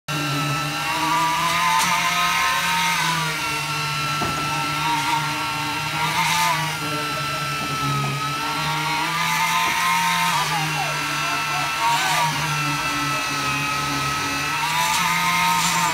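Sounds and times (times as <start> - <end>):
concrete vibrator motor hum and whine: 0.1 - 15.9.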